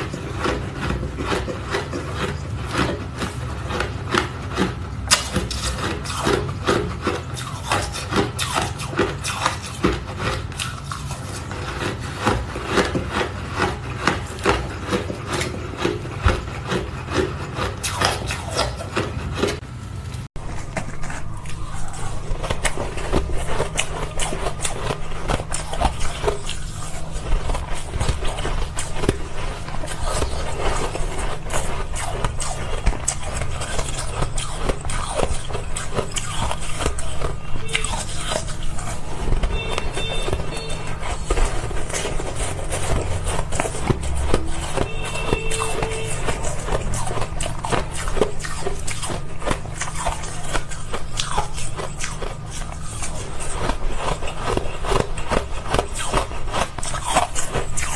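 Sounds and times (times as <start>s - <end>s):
ice crunching and scraping: 0.0s - 19.6s, 20.2s - 57.9s.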